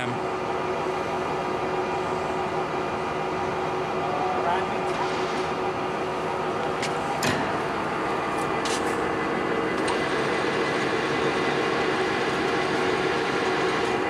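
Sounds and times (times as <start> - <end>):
lathe mechanical hum: 0.0 - 14.0.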